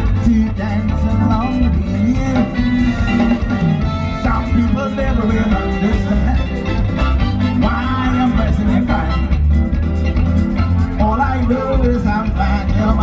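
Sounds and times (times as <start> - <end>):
bass guitar: 0.0 - 13.0
drum kit: 0.0 - 13.0
electric guitar: 0.0 - 13.0
keyboard: 0.0 - 13.0.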